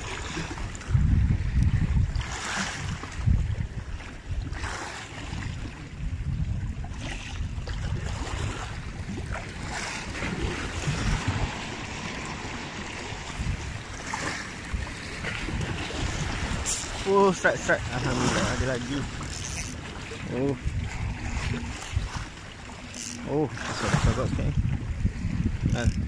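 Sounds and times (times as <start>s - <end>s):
sea waves against rocks: 0.0s - 26.0s
wind on microphone: 0.0s - 26.0s.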